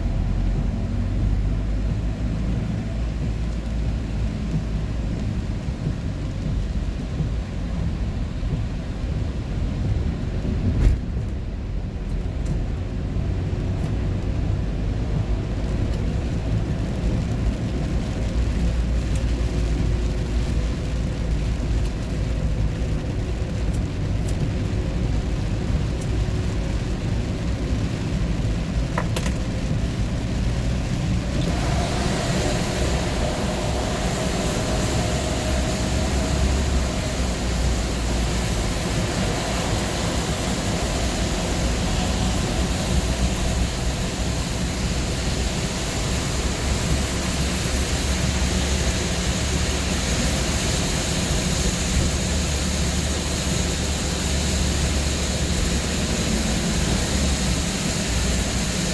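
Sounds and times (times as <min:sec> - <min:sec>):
tyre and wind hiss: 0:00.0 - 0:58.9
vehicle rumble from inside: 0:00.0 - 0:58.9.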